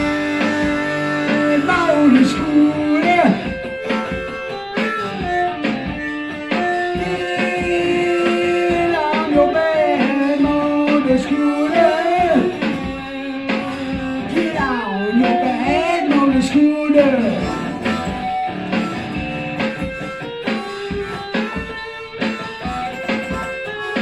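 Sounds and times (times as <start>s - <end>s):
blues-rock band playing: 0.0s - 24.0s
electric guitar solo: 0.0s - 24.0s.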